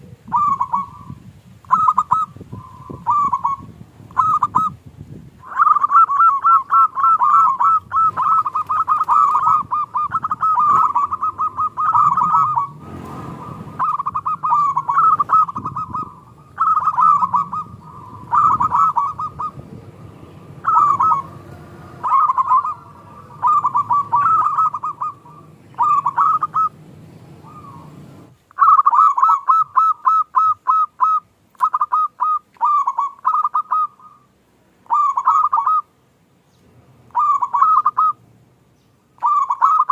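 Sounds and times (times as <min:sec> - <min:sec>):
dove cooing: 0:00.0 - 0:04.8, 0:05.4 - 0:35.9, 0:37.1 - 0:38.2, 0:39.2 - 0:39.9.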